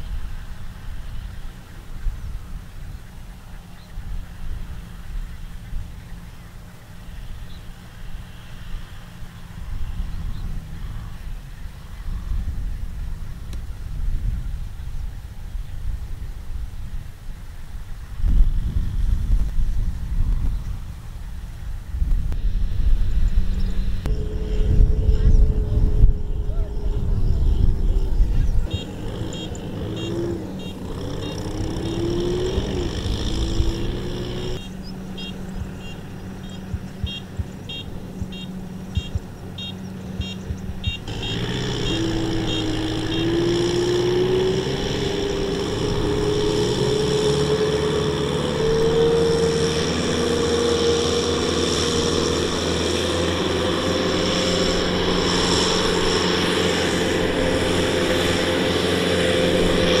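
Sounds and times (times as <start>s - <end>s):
tractor diesel engines revving: 0.0s - 60.0s.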